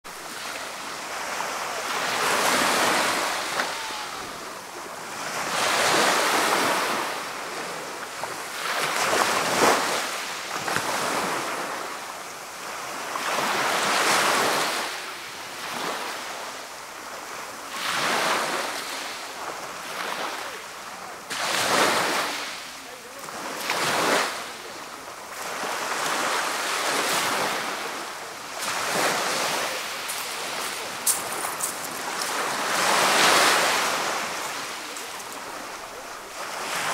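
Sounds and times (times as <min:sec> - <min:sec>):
waves washing onto gravel beach: 0:00.1 - 0:36.9.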